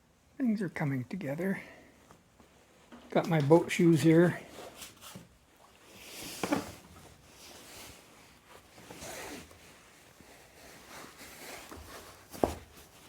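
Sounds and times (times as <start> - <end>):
faint rustling and handling: 0.0 - 13.0.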